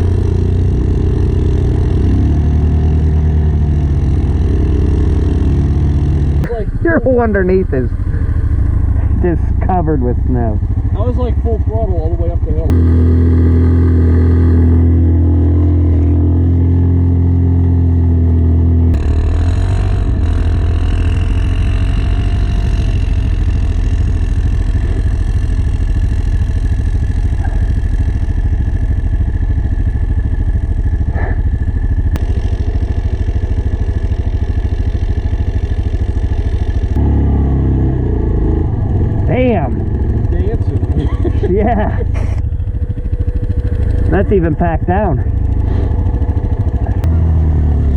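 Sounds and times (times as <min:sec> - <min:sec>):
atv engine running under throttle: 0:00.0 - 0:47.9.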